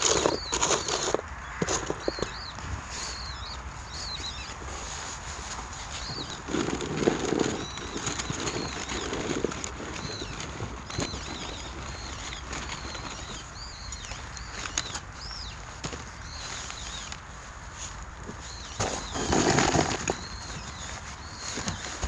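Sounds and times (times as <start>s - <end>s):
small bird chirping: 0.0s - 4.6s, 5.9s - 17.3s, 18.3s - 22.0s.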